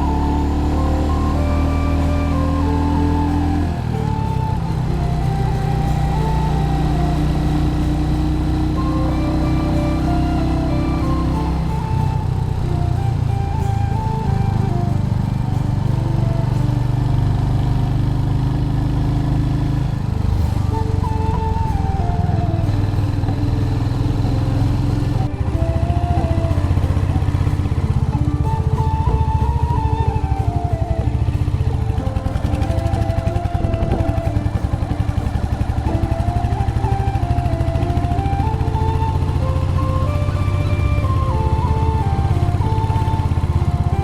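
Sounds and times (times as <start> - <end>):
single-cylinder engine running: 0.0 - 44.0
slow background music: 0.0 - 44.0.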